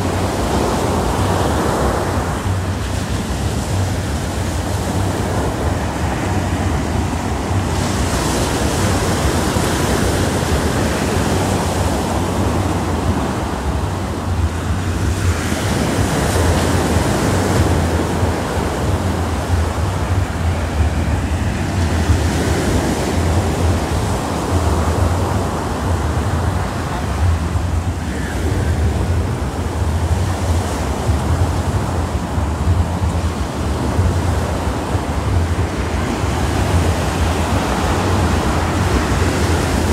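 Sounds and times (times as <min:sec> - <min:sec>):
small waves breaking on sand: 0:00.0 - 0:39.9
wind buffeting microphone: 0:00.0 - 0:39.9.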